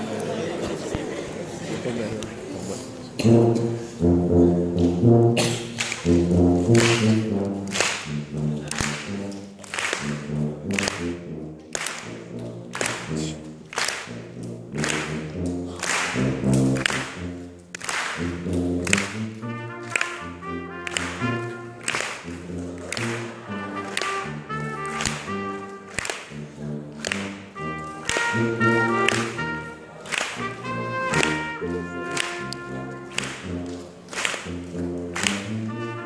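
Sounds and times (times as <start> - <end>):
brass ensemble playing slow chords: 2.6 - 36.0.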